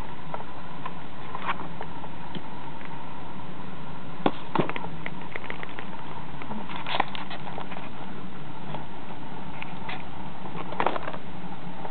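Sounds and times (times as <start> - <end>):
steady hum: 0.0 - 11.9.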